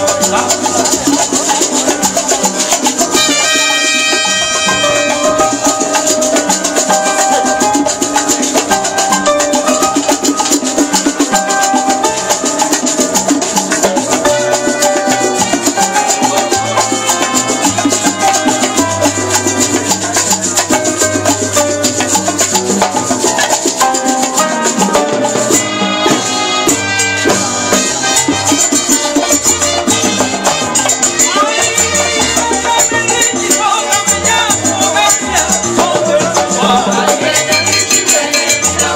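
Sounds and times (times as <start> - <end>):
guiro scraping rhythm: 0.0 - 38.9
salsa band playing: 0.0 - 38.9.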